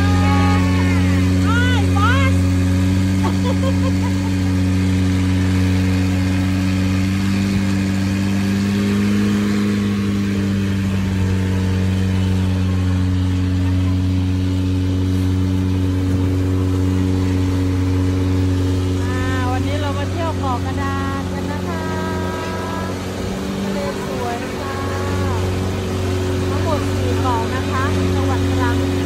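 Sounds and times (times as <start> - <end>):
boat engine droning: 0.0 - 29.0.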